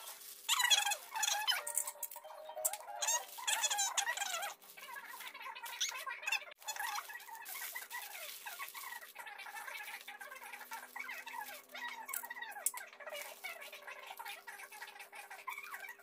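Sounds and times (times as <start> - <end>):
aluminium foil crinkling: 0.0 - 16.0
squeaky chirps and warbles: 0.5 - 16.0.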